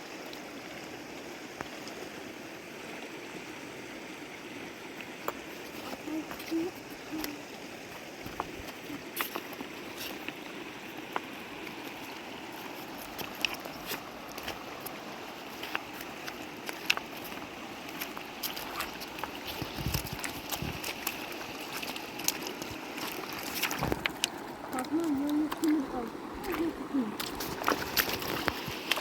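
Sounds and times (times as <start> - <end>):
stream water running: 0.0 - 29.0.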